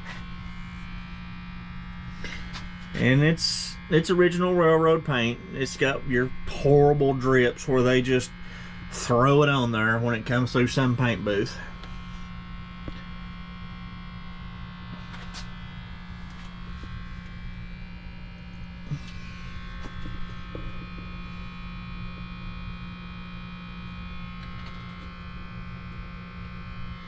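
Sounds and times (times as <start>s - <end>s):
machine hum with buzz: 0.0s - 27.0s.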